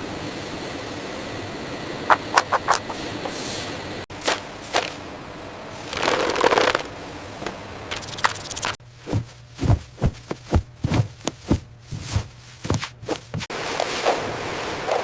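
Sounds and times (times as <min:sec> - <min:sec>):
steady machine noise: 0:00.9 - 0:13.6.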